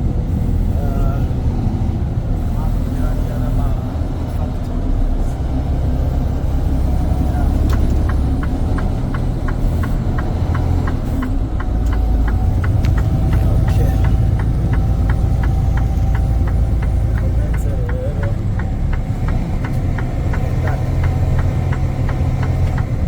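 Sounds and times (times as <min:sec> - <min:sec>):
truck engine rumbling: 0:00.0 - 0:23.0
turn signal ticking: 0:00.0 - 0:23.0.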